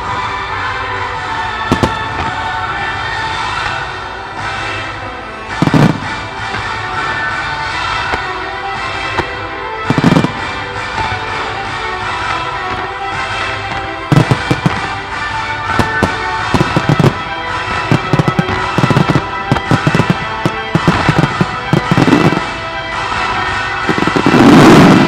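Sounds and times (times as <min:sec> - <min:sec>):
fireworks bangs: 0:00.0 - 0:25.0
music playing: 0:00.0 - 0:25.0.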